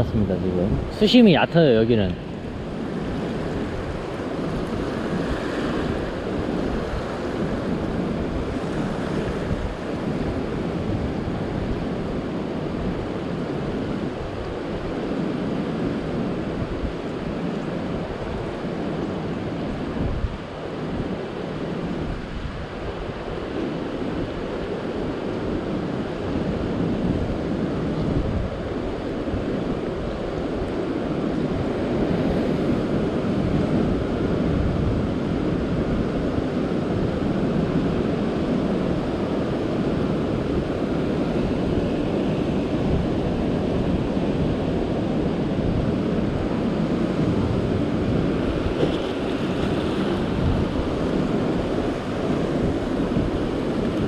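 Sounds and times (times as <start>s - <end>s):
sea surf washing over rocks: 0.0s - 54.0s
wind buffeting microphone: 0.0s - 54.0s.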